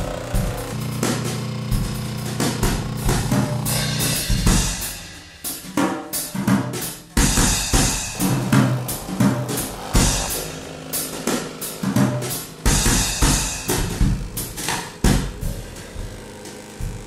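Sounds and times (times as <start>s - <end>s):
sustained bass line: 0.0s - 4.9s, 7.5s - 17.0s
drum kit beat: 0.0s - 17.0s.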